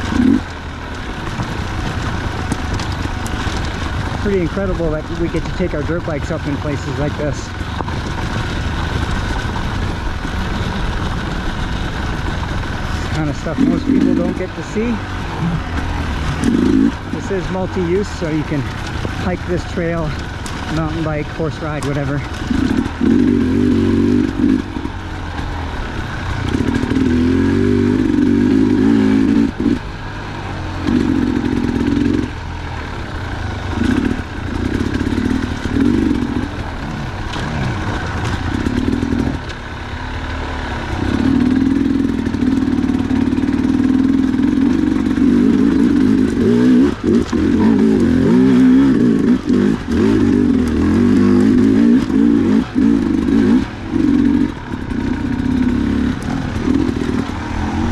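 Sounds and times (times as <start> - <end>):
bike clattering over rough ground: 0.0 - 40.0, 40.6 - 57.9
dirt bike engine revving: 0.0 - 57.9.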